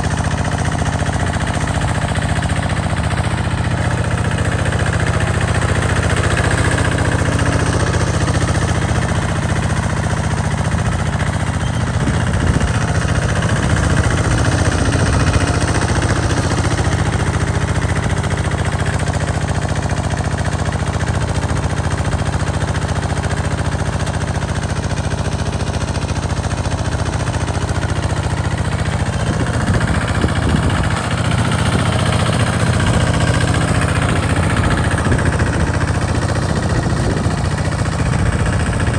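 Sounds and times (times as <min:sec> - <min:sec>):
tractor engine clattering: 0:00.0 - 0:38.9.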